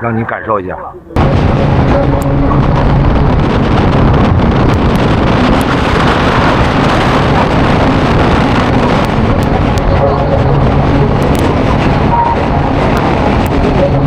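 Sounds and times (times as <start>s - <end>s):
low machine hum: 0.8s - 14.0s
wind buffeting microphone: 1.0s - 14.0s.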